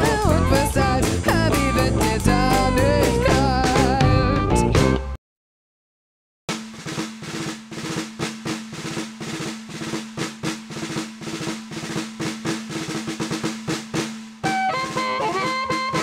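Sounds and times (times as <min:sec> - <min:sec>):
rapid steady drumming: 0:00.0 - 0:04.1, 0:06.5 - 0:16.0.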